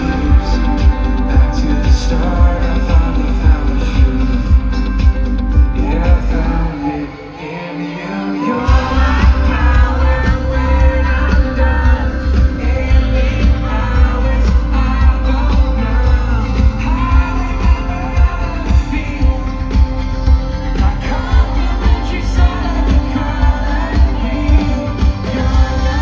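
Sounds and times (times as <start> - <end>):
heavy bass and drum beat: 0.0 - 6.8, 8.7 - 26.0
lead vocal singing: 0.0 - 26.0
live pop band playing: 0.0 - 26.0.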